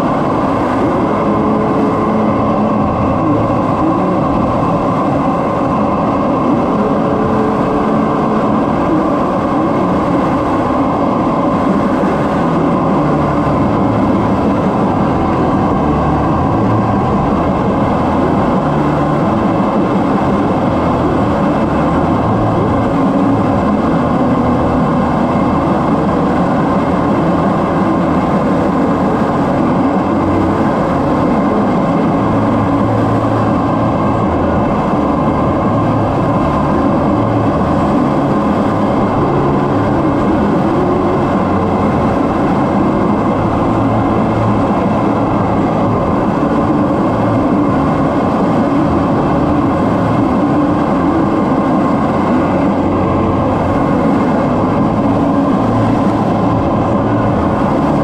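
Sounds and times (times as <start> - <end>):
air rushing over canopy: 0.0 - 58.0
jet engine whine: 0.0 - 58.0.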